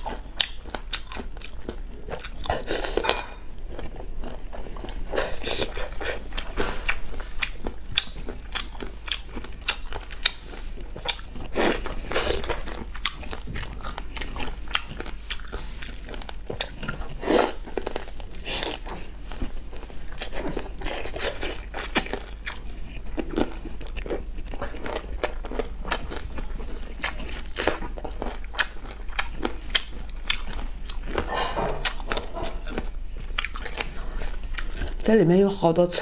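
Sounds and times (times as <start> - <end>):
chewing and crunching: 0.0 - 36.0.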